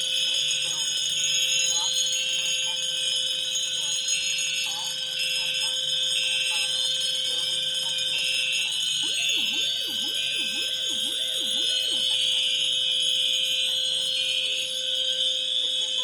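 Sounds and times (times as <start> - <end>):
fire alarm horns and sirens: 0.0 - 16.0
low wailing siren: 0.0 - 16.0.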